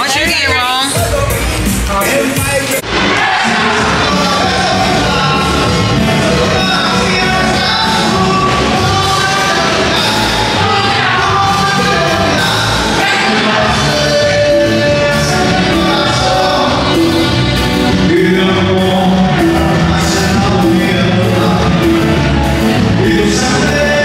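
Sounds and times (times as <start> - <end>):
band playing live music: 0.0 - 24.0
person singing: 3.5 - 24.0.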